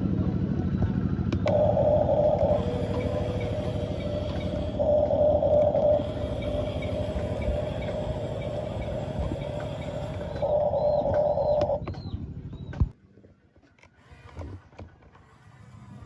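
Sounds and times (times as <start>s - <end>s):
electric motors whining and rattling: 1.0s - 13.0s, 13.8s - 16.0s.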